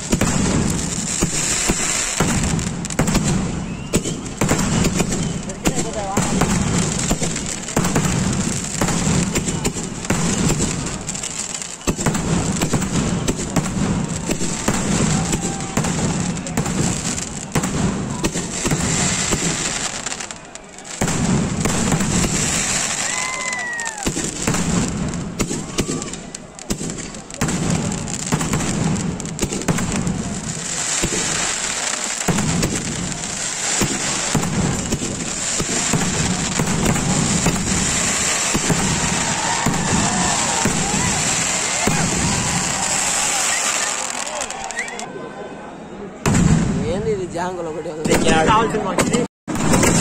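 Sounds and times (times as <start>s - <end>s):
firecrackers crackling and banging: 0.0s - 45.1s, 46.2s - 50.0s.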